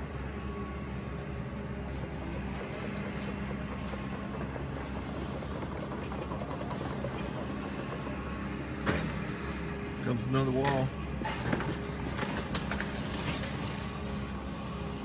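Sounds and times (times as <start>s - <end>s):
demolition machinery running: 0.0s - 15.0s.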